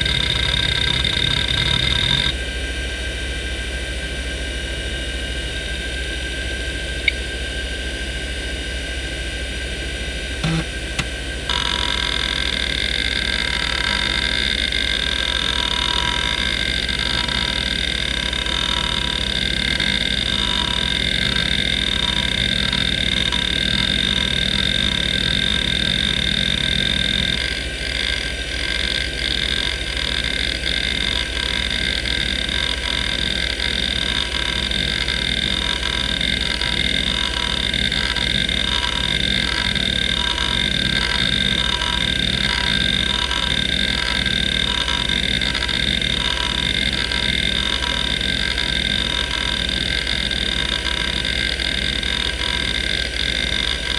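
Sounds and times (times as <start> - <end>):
hard drive motor whining: 0.0 - 2.4, 10.3 - 53.9
hard drive seek chatter: 0.0 - 2.4, 10.4 - 53.9.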